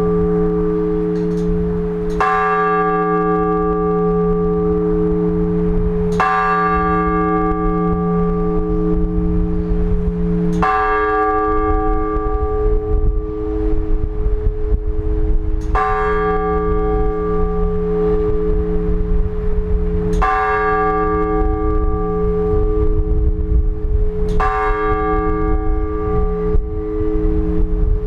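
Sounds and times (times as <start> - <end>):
large church bell ringing: 0.0 - 28.0.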